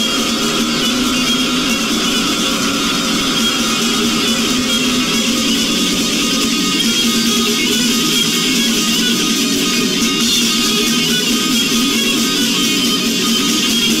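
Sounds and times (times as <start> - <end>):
death metal band playing live: 0.0 - 14.0.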